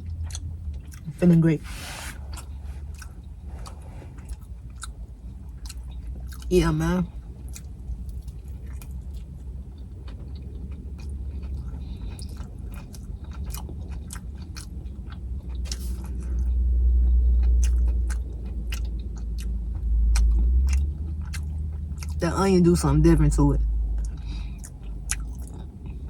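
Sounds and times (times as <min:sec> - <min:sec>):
chewing with wet mouth clicks: 0:00.0 - 0:01.2, 0:02.2 - 0:22.2, 0:23.8 - 0:26.0
low rumble: 0:00.0 - 0:26.0.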